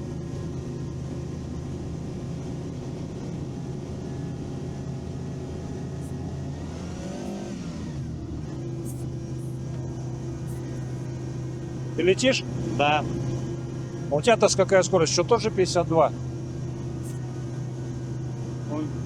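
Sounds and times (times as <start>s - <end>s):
vehicle engine running with whine: 0.0s - 19.0s.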